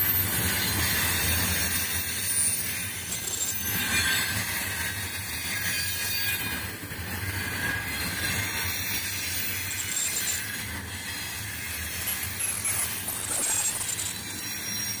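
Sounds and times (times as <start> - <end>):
high hiss of rail noise: 0.0 - 15.0
train wheels rumbling on track: 0.0 - 15.0.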